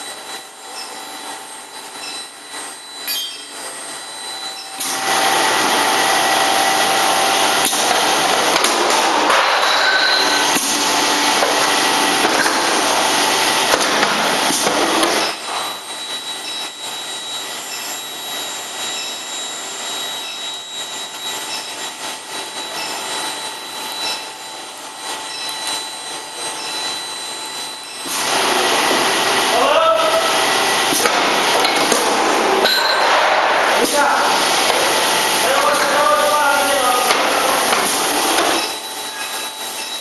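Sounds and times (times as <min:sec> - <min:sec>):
high machine whine: 0:00.0 - 0:40.0
loud machine hissing: 0:03.4 - 0:40.0.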